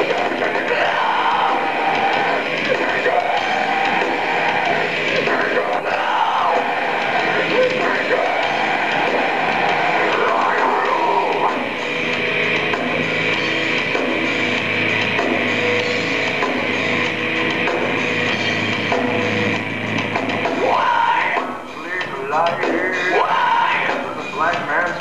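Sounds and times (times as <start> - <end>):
electric bass: 0.0 - 20.8
drum kit: 0.0 - 25.0
electric guitars: 0.0 - 25.0.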